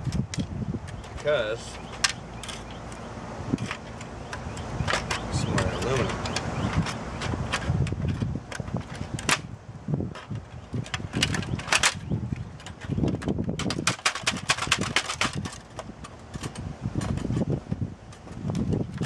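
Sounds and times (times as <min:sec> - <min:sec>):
plastic parts clicking and snapping: 0:00.0 - 0:09.5, 0:10.1 - 0:19.0.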